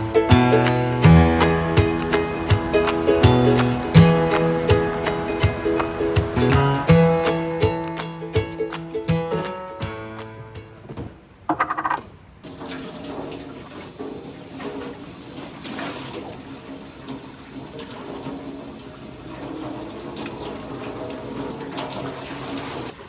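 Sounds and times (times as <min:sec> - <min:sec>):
water running: 0:00.0 - 0:08.9, 0:12.4 - 0:23.0.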